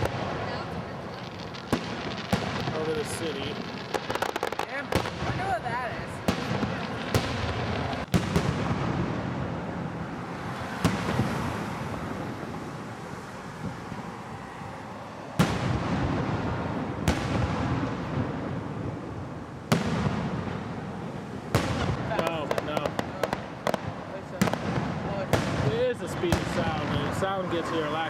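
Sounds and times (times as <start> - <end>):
fireworks bursting with rumble: 0.0 - 28.0.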